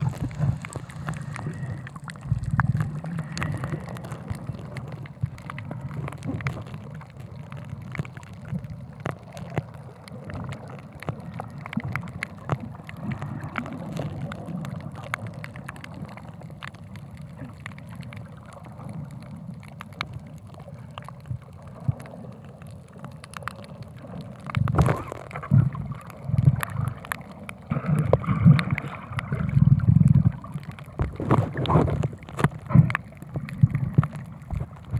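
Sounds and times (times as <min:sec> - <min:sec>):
low water surges: 0:00.0 - 0:34.9
water gurgling and sloshing: 0:00.0 - 0:34.9.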